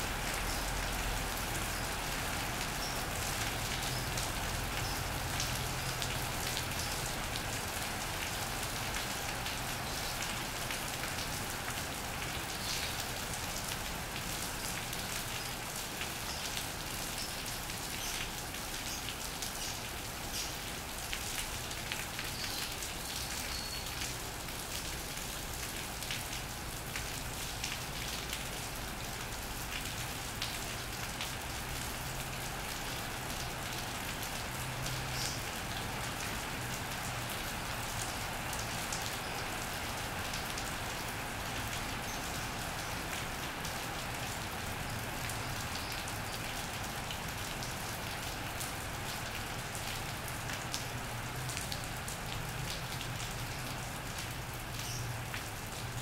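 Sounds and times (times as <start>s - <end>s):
rain on an iron roof: 0.0s - 56.0s.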